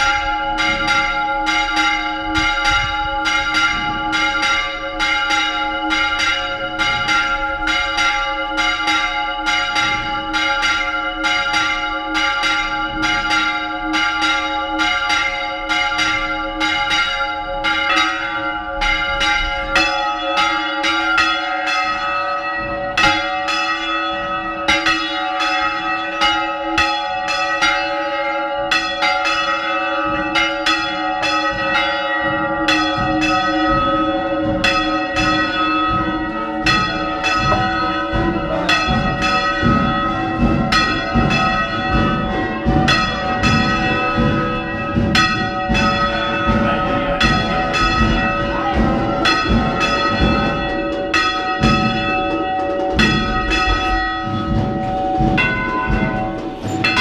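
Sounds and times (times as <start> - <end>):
church bells ringing: 0.0 - 57.0
deep heavy bell strokes: 0.0 - 57.0.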